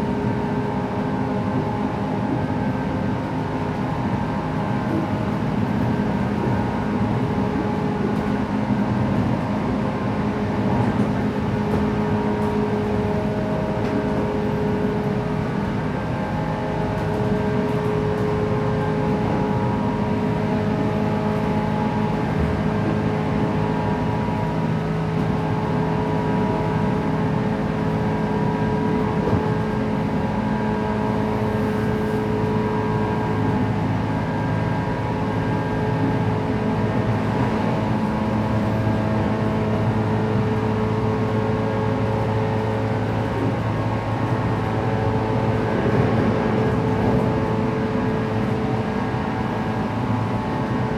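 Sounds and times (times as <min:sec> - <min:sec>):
train wheels and motors droning: 0:00.0 - 0:50.9.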